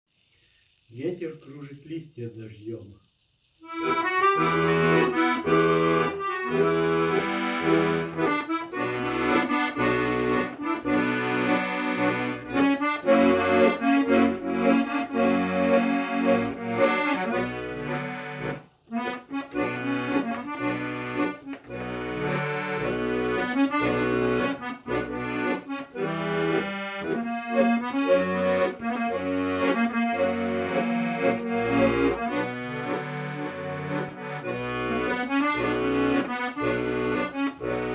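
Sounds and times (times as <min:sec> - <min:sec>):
accordion music: 0:03.6 - 0:37.9.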